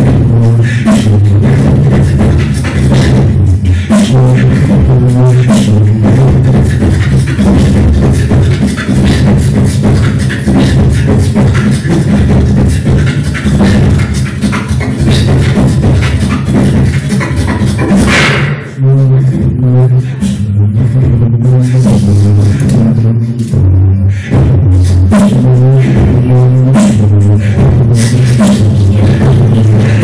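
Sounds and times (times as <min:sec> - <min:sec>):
beatboxing drum clicks and hisses: 0:00.0 - 0:18.8, 0:21.6 - 0:30.0
hummed bass line: 0:00.0 - 0:30.0.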